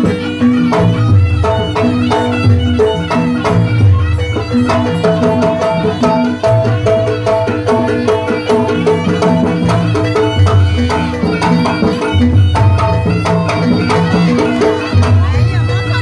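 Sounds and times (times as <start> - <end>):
drum and percussion strikes: 0.0 - 16.0
pitched metal notes: 0.0 - 16.0.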